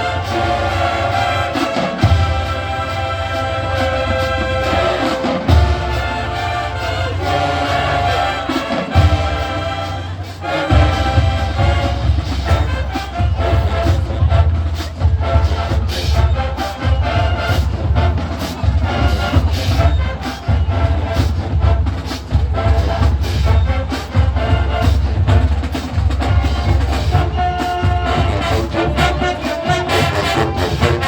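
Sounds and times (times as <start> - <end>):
brass chords: 0.0 - 31.0
marching band playing: 0.0 - 31.0
bass drums and percussion: 3.8 - 31.0.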